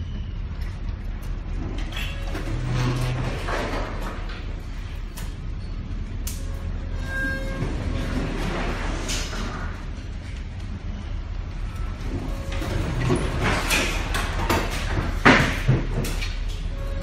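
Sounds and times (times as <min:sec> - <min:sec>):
ship low rumble: 0:00.0 - 0:17.0.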